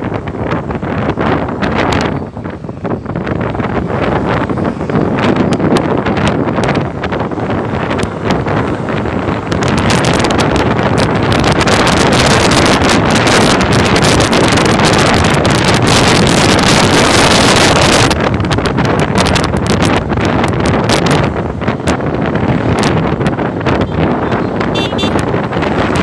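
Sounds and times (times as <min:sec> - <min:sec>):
road and vehicle noise: 0:00.0 - 0:26.0
wind buffeting microphone: 0:00.0 - 0:26.0.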